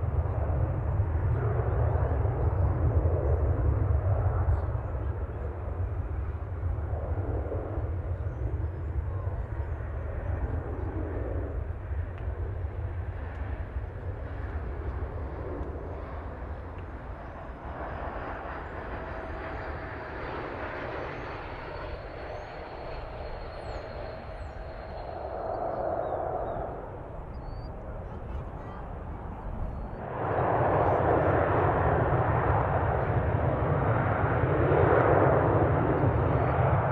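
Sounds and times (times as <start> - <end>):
jet engines rumbling: 0.0 - 36.9.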